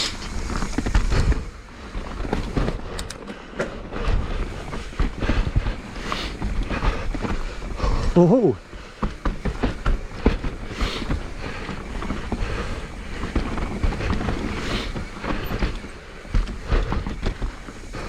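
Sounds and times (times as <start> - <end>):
bike knocks and rattles: 0.0 - 18.0
bike tyre noise on dirt: 0.0 - 18.0.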